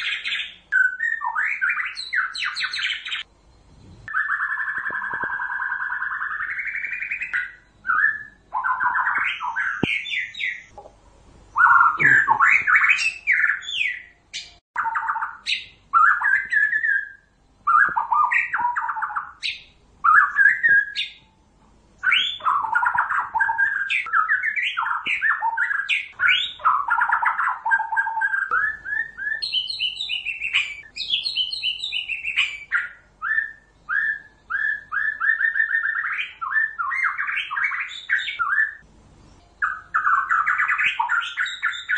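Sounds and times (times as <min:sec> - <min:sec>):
bird singing whistled phrases: 0:00.0 - 0:03.3, 0:04.1 - 0:10.7, 0:11.5 - 0:21.3, 0:22.0 - 0:38.8, 0:39.6 - 0:41.9.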